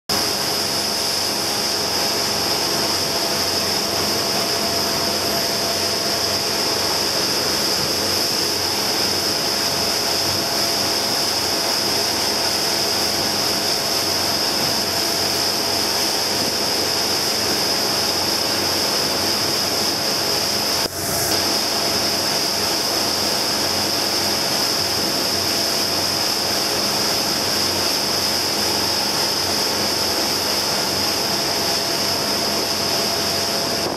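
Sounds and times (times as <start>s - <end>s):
churning wake rushing: 0.1s - 33.9s
motorboat engine: 0.1s - 33.9s
wind: 0.1s - 33.9s.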